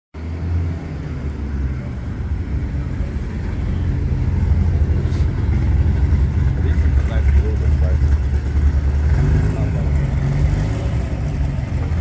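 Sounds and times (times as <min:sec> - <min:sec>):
car engine rumbling rolling by: 0:00.2 - 0:12.0.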